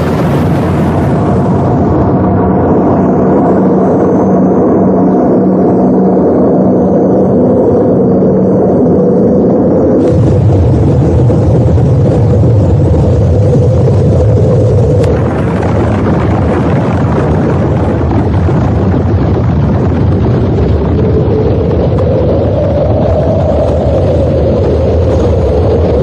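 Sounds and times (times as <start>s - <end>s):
low rumbling noise: 0.0s - 26.0s
steady hum: 0.0s - 26.0s.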